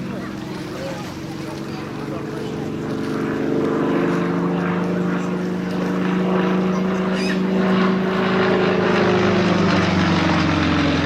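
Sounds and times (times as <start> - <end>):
propeller aircraft flying by: 0.0 - 11.0.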